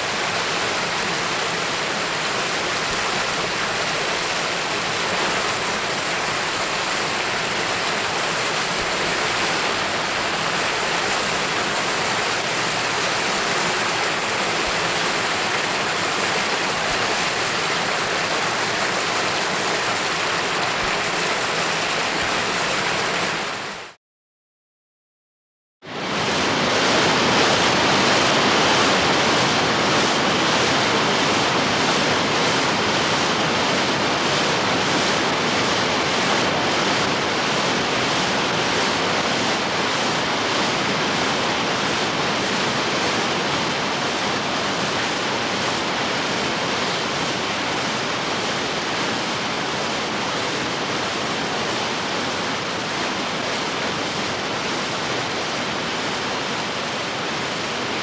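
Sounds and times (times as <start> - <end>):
rushing water: 0.0 - 24.0, 27.0 - 58.0.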